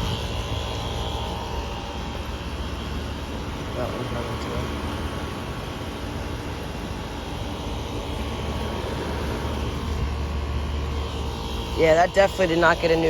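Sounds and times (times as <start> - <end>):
air conditioner unit droning: 0.0 - 13.0.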